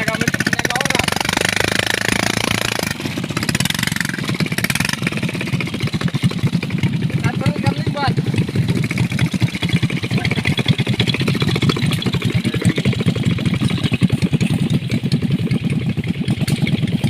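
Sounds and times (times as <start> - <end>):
motorcycle engine chugging: 0.0 - 17.0.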